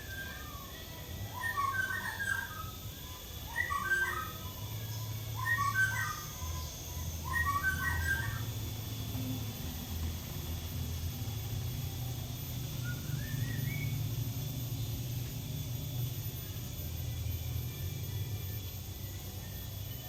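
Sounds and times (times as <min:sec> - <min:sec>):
bird singing whistled notes: 0:00.0 - 0:09.0, 0:12.0 - 0:20.0
low steady hum: 0:00.0 - 0:20.0.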